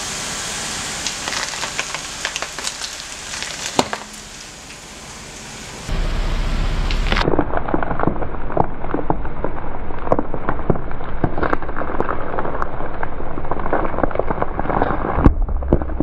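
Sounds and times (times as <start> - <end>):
low steady hum: 0.0 - 11.5, 12.5 - 16.0
crackling and snapping under tyre: 1.0 - 4.8, 6.9 - 16.0.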